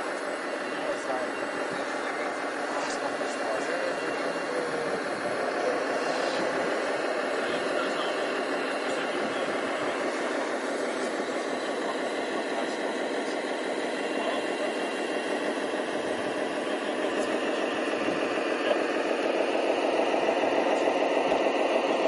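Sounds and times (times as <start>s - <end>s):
toy truck engine drone: 0.0s - 22.0s.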